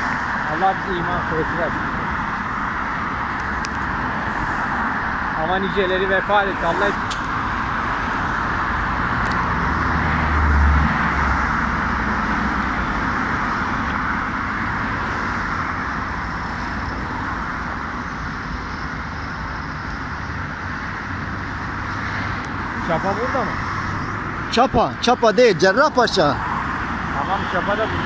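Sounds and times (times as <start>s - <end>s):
vehicle passing with deep rumble: 0.0s - 28.0s.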